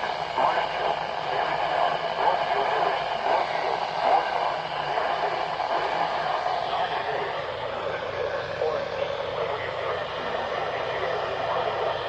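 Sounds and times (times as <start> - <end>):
muffled voice: 0.0 - 12.0
radio static: 0.1 - 12.0.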